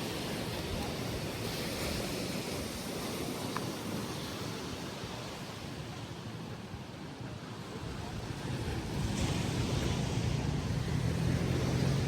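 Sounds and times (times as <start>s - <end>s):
sea surf washing onto beach: 0.0s - 12.0s.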